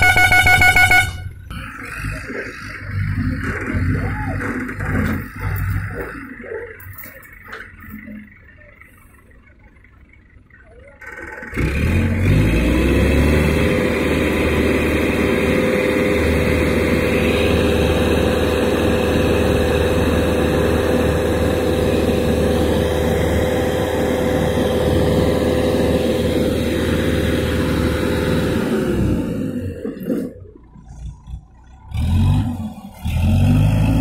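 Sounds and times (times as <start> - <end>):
diesel engine revving: 0.0 - 34.0.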